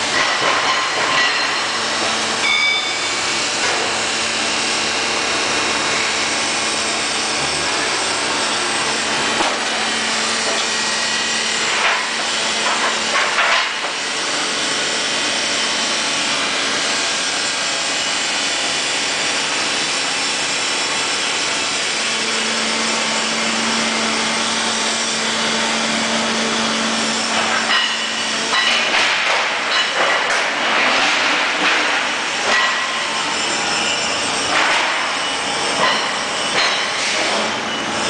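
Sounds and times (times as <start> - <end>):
grinding machine whirring: 0.0 - 38.0.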